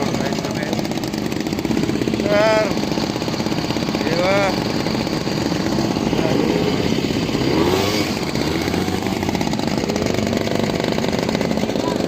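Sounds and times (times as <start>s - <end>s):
small atv engine buzzing: 0.0s - 12.0s.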